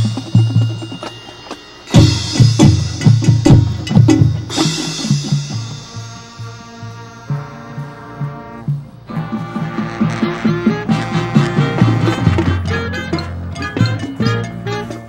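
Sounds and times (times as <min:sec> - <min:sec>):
cymbal crashes: 0:00.0 - 0:12.5
bass drum and snare beats: 0:00.0 - 0:15.0
marching band playing: 0:00.0 - 0:15.0.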